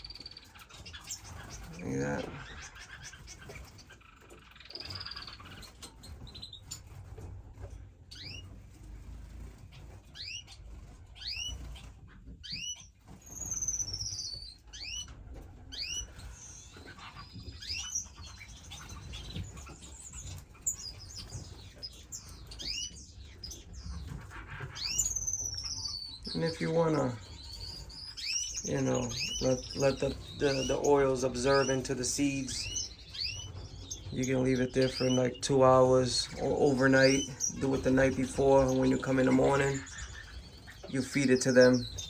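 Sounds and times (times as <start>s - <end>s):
finches chirping: 0.0s - 42.0s.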